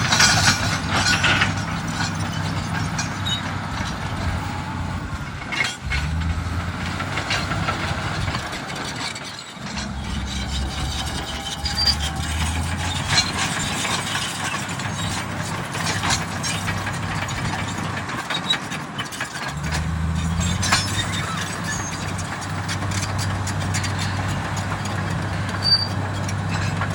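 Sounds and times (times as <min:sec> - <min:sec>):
diesel engine droning: 0:00.0 - 0:26.9
steel tracks clanking and squeaking: 0:00.0 - 0:26.9.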